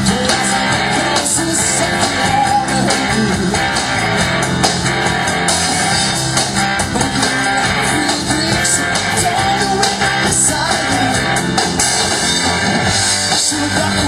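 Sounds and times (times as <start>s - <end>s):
drum kit: 0.0s - 14.0s
strummed electric guitar: 0.0s - 14.0s.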